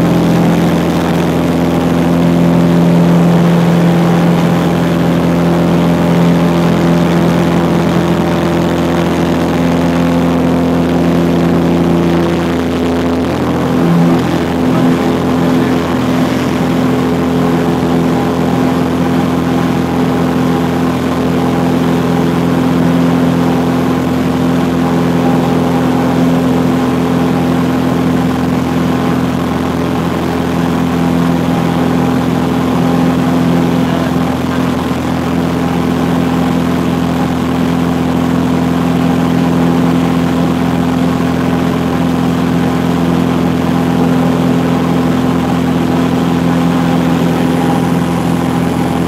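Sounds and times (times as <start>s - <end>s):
airplane engine and propeller drone: 0.0s - 49.0s.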